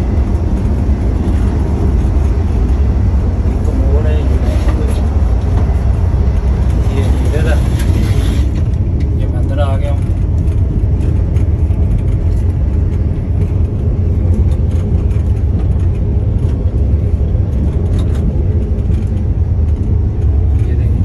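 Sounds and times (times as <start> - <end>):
train running low rumble: 0.0 - 21.0.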